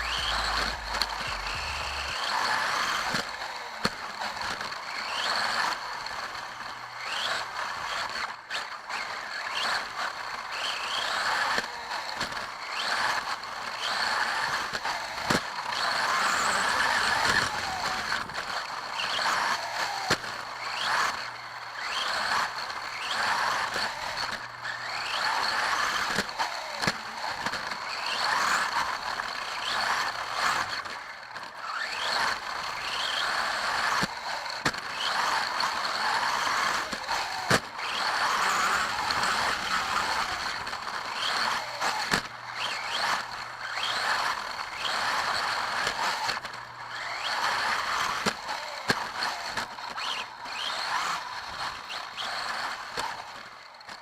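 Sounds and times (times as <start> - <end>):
electric motor whining: 0.0 - 53.8.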